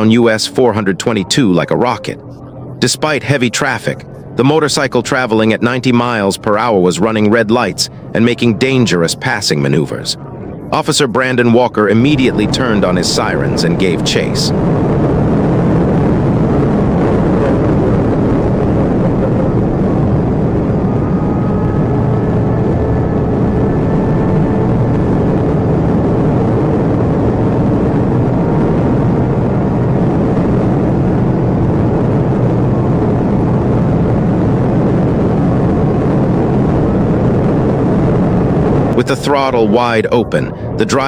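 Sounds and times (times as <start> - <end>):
engine and road noise: 0.0 - 41.0.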